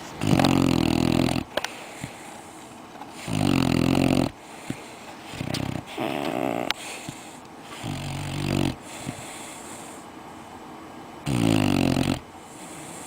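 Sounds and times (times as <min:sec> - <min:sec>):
puppy snoring: 0:00.0 - 0:10.0, 0:11.2 - 0:13.0
puppy breathing: 0:00.0 - 0:10.2, 0:11.2 - 0:13.0.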